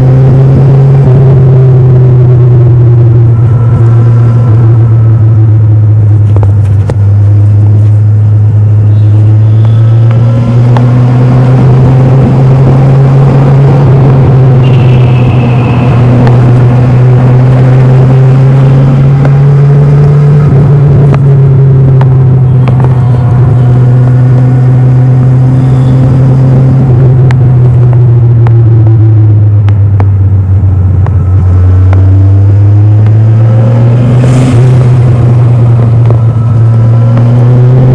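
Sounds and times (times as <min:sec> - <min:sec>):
motorcycle engine drone: 0:00.0 - 0:37.9.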